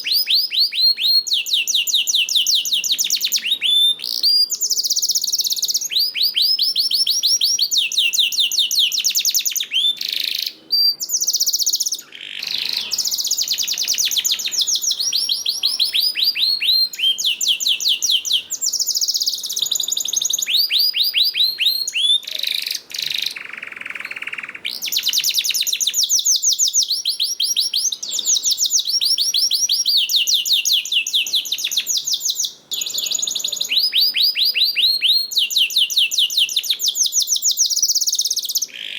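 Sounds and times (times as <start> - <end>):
buzzy rasping bird call: 0.0 - 38.9
canary singing trills: 0.0 - 38.9.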